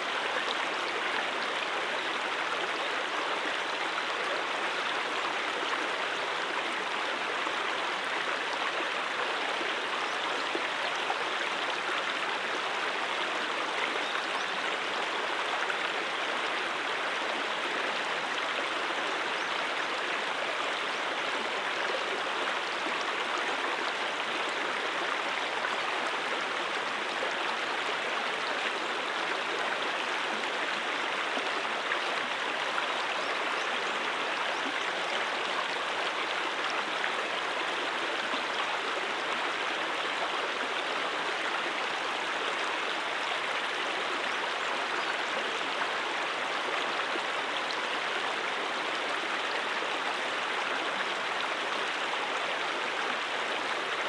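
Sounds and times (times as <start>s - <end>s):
running water stream: 0.0s - 54.0s.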